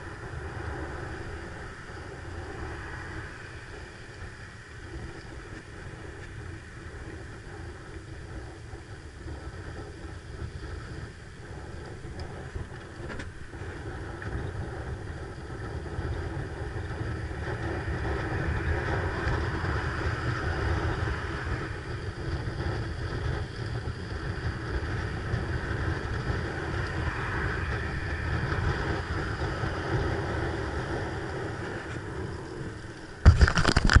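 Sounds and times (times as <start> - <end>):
bicycle rolling on road: 0.0 - 34.0
wind on microphone: 0.0 - 34.0.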